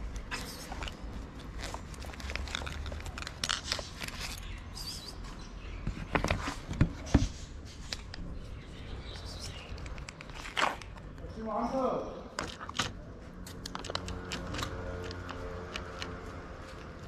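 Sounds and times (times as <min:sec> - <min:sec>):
handling clicks and rustles: 0:00.0 - 0:11.4, 0:12.3 - 0:17.0.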